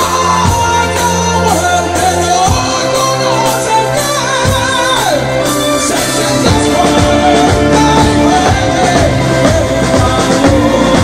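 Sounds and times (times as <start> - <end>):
live rock band playing: 0.0 - 11.0
man singing lead vocal: 0.0 - 11.0.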